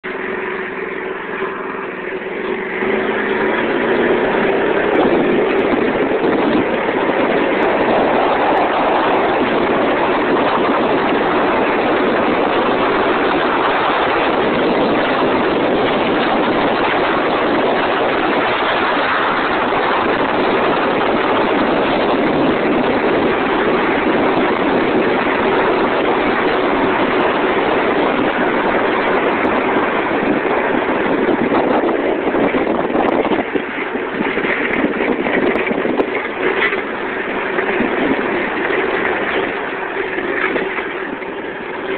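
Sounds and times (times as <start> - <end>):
go-kart engine: 0.0 - 41.9
steady rush of noise: 0.0 - 41.9.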